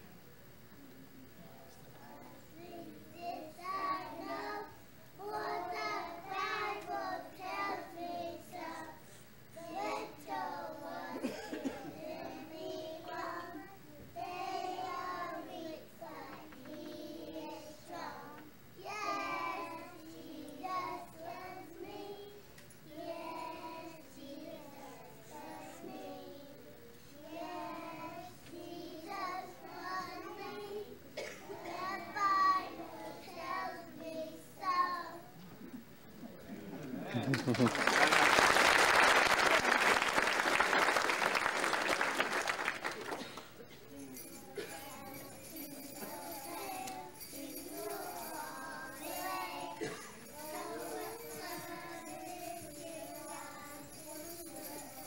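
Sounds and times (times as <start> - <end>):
children singing together: 1.9 - 35.6, 43.2 - 55.0.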